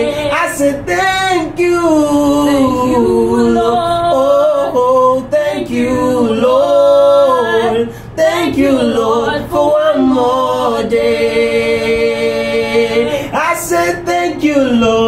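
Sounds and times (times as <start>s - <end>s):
woman and man singing a cappella: 0.0s - 15.0s.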